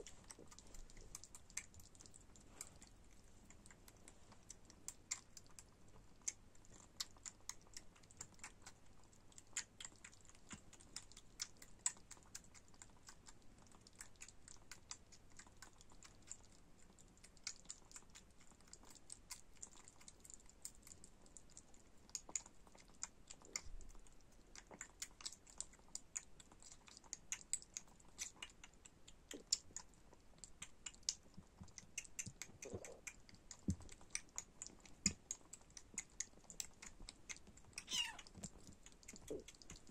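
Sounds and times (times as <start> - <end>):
kitten suckling bottle: 0.0 - 39.9.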